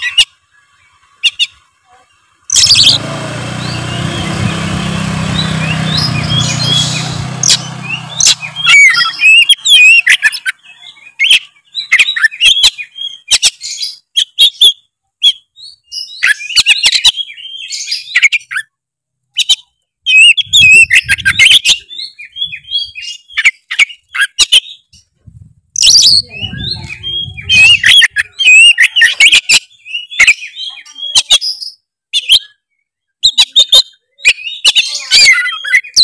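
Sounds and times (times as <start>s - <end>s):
bird singing: 0.0s - 25.2s, 25.8s - 36.0s.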